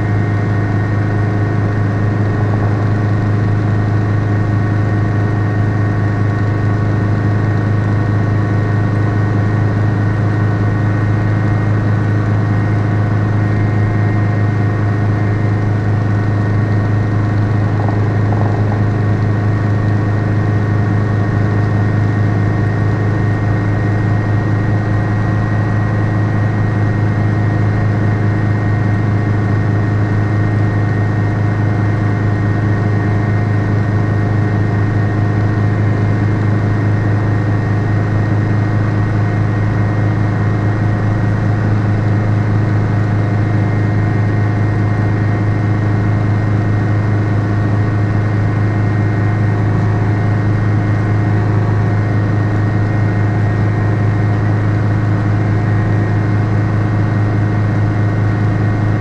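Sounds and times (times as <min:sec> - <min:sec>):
deep hum: 0:00.0 - 0:59.0
helicopter engine and rotor drone: 0:00.0 - 0:59.0.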